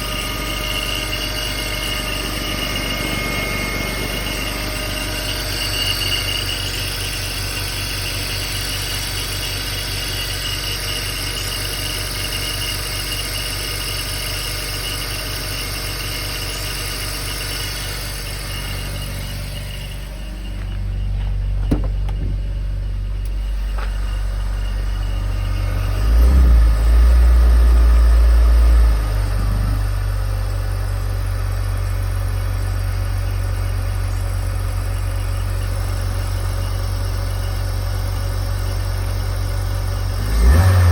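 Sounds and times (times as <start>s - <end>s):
car engine idling: 0.0s - 40.9s
high chirping ringing noise: 0.0s - 40.9s.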